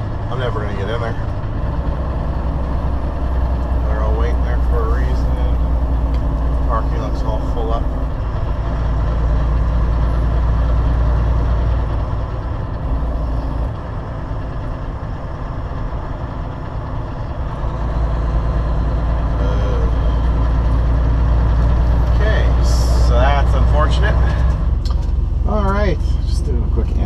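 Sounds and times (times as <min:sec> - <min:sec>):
truck diesel engine droning: 0:00.0 - 0:27.0.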